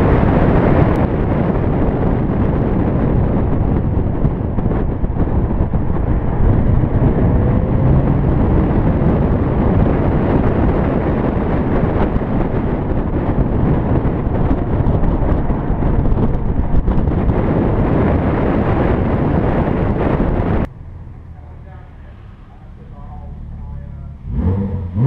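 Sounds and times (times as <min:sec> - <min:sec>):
wind buffeting on microphone: 0:00.0 - 0:20.7
car engine: 0:00.0 - 0:25.0
road noise: 0:00.0 - 0:25.0.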